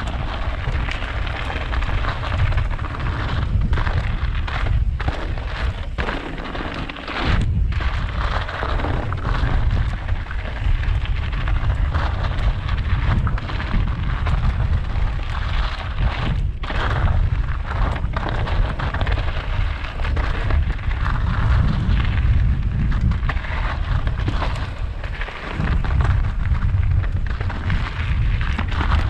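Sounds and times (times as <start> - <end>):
bike rattling down rough track: 0.0 - 29.0
wind buffeting microphone: 0.0 - 29.0.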